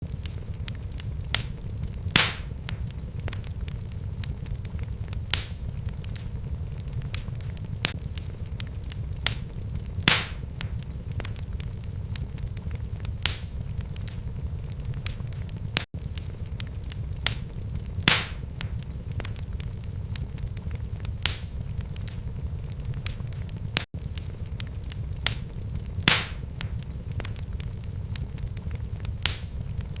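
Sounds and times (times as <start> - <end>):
fire popping and snapping: 0.0 - 30.0
low rumble of flames: 0.0 - 30.0.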